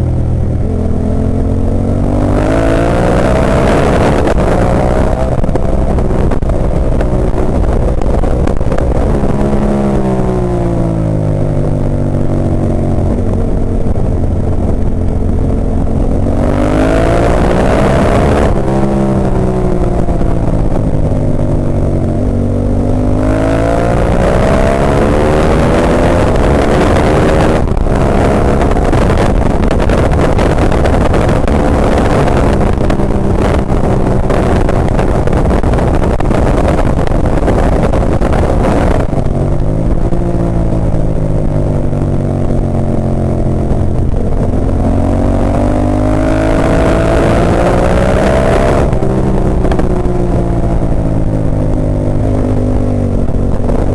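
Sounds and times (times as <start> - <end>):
motorcycle engine revving: 0.0 - 53.9
wind rush: 0.0 - 53.9.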